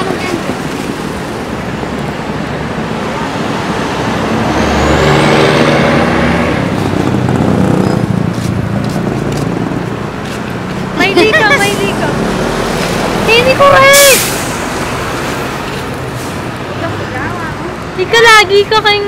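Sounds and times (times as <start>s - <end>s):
tanker truck engine passing: 0.0s - 18.7s
bus passing: 0.0s - 19.0s.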